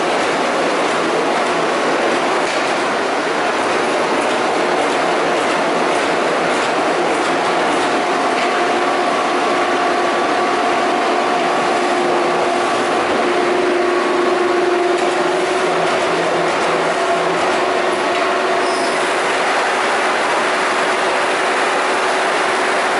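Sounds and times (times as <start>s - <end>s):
steady machine whine: 0.0s - 22.9s.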